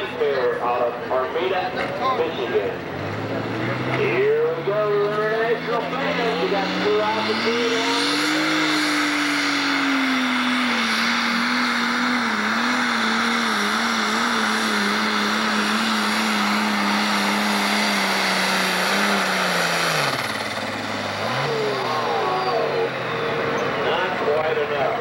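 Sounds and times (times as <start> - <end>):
tractor diesel engine at full revs: 0.0 - 25.0.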